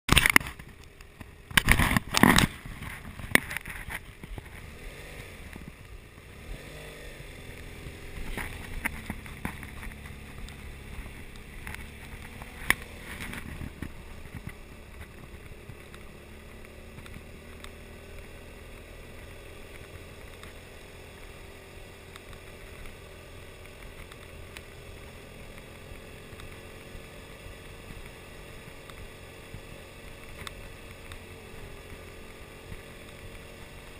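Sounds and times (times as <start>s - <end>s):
motorcycle engine running: 0.1s - 33.9s
wind and tyre noise: 0.1s - 33.9s.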